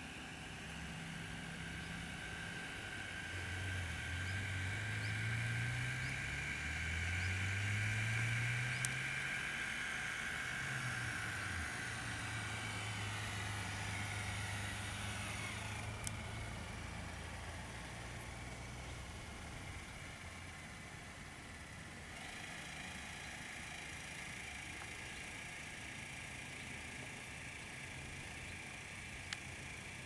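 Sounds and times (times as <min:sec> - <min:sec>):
engine humming: 0:00.0 - 0:30.0
high steady whine: 0:00.0 - 0:30.0.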